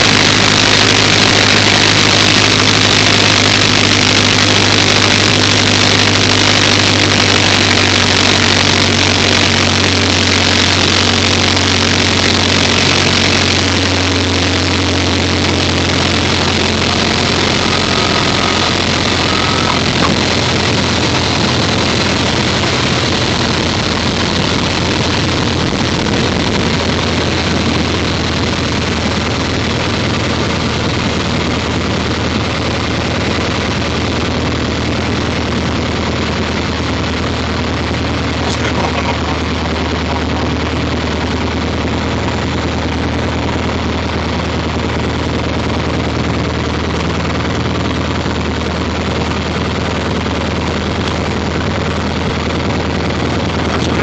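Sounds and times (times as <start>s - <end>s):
aircraft engine idling: 0.0s - 54.0s.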